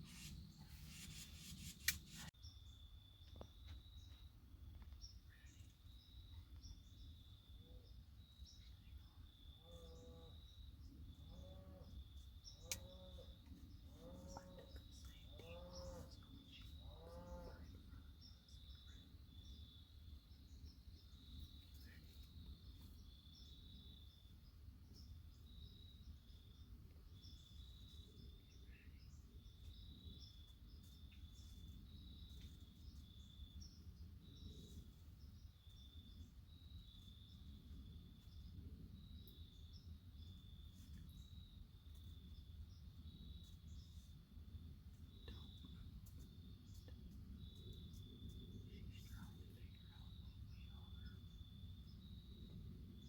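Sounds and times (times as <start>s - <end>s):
insect chirping: 0.0s - 53.0s
faint low rumble: 10.4s - 53.0s.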